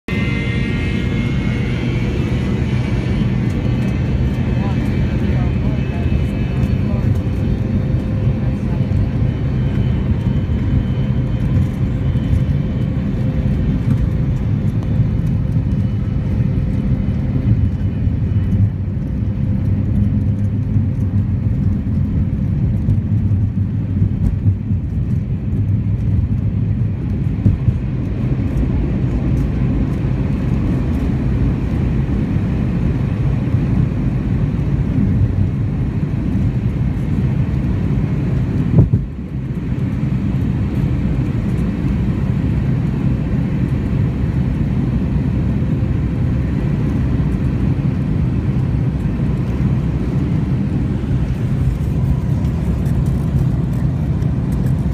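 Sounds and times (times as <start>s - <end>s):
jet engines rumbling: 0.1s - 54.9s
wheels rolling on runway: 0.6s - 54.9s.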